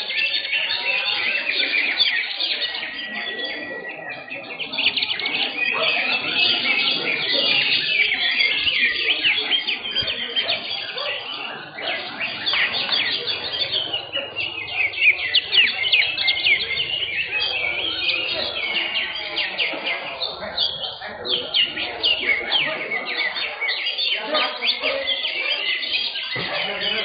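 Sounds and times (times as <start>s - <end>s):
birds singing chirps and trills: 0.0s - 27.0s.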